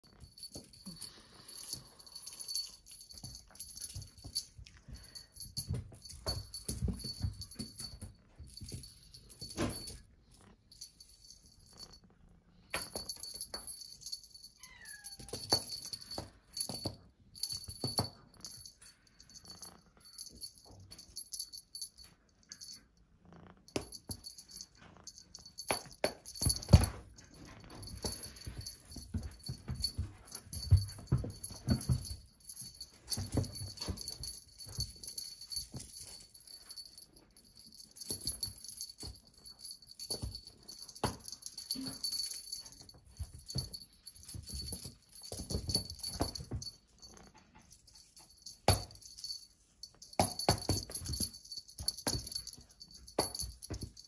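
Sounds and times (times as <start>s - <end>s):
toy jingling: 0.0s - 12.0s, 12.7s - 22.9s, 23.7s - 54.0s.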